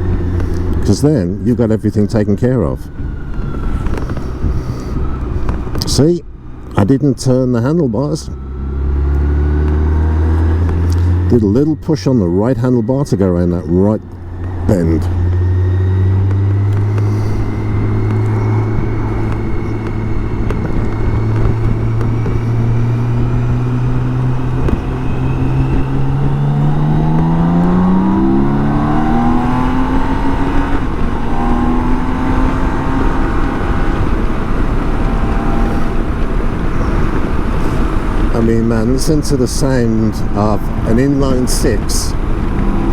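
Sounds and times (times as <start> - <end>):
motorcycle engine accelerating: 0.0 - 42.9
wind and road noise: 0.0 - 42.9.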